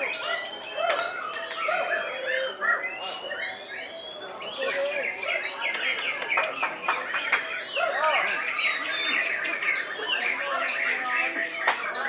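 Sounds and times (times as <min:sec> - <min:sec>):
birds singing chirps and trills: 0:00.0 - 0:12.0.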